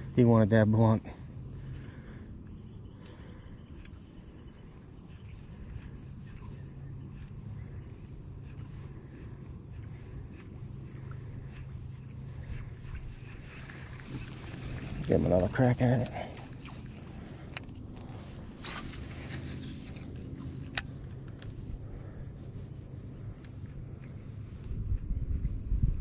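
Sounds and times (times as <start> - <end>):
high-pitched hum: 1.0 - 26.0.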